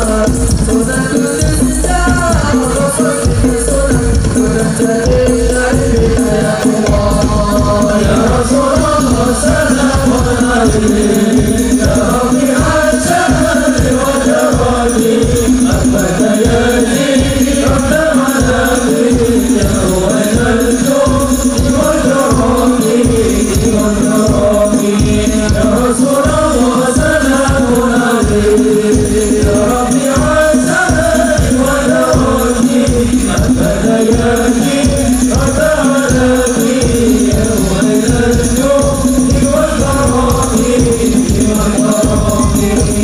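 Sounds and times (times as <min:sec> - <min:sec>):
frame drums beating: 0:00.0 - 0:43.0
jingling percussion: 0:00.0 - 0:43.0
men chanting together: 0:00.0 - 0:43.0.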